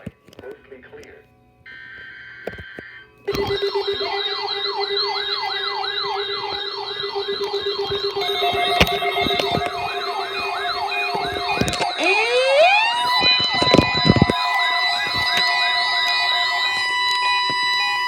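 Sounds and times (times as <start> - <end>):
electronic siren yelping: 3.3 - 18.0
slow rising siren wail: 3.3 - 18.0
steady siren tone: 3.3 - 18.0.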